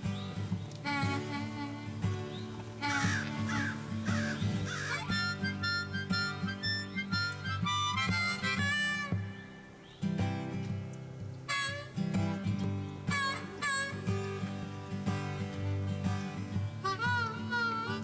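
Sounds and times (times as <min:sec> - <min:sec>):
harmonica: 0:00.0 - 0:10.5, 0:11.3 - 0:18.0.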